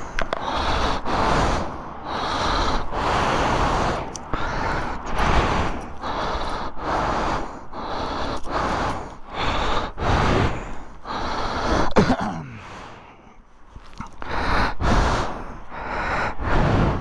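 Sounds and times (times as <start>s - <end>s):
heavy fast breathing: 0.0s - 17.0s.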